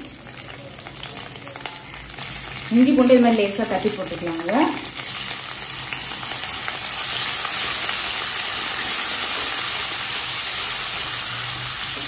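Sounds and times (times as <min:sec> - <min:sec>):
ginger and garlic sizzling in oil: 0:00.0 - 0:12.0.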